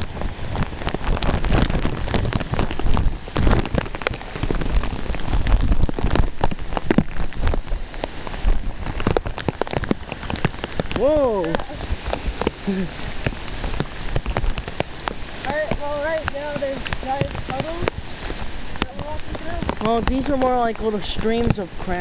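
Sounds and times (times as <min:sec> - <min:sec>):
heavy rain drops hitting: 0:00.0 - 0:22.0.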